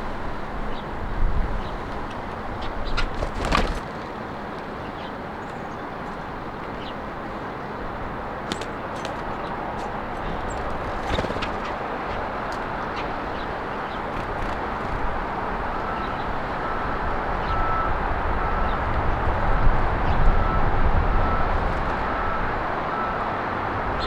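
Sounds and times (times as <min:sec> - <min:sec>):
road traffic hum: 0:00.0 - 0:24.0
small birds chirping: 0:00.3 - 0:20.6.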